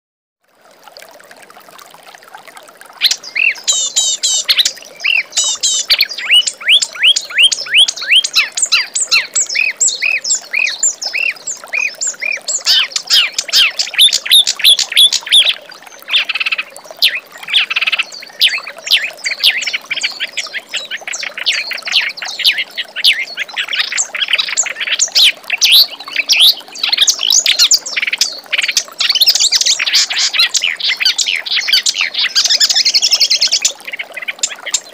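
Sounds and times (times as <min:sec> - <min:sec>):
reed warbler singing: 0:03.0 - 0:34.9.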